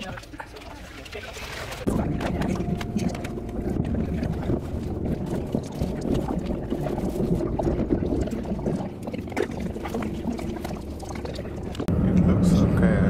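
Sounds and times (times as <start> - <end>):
train carriage rumble: 1.8 - 13.0.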